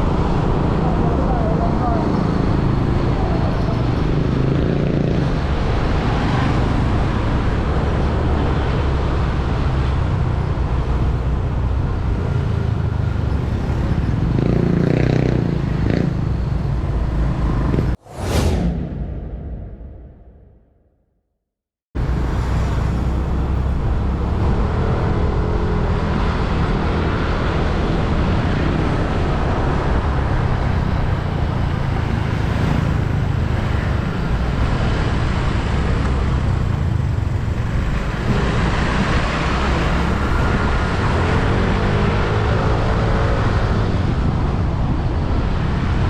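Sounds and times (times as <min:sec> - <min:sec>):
vehicles passing: 0:00.0 - 0:18.6, 0:22.0 - 0:46.0
road rumble: 0:00.0 - 0:20.6, 0:22.0 - 0:46.0.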